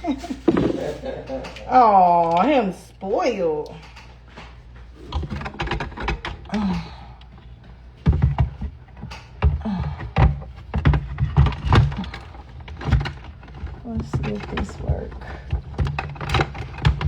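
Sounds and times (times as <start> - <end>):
objects knocking and clicking: 0.0 - 2.6, 3.7 - 17.0.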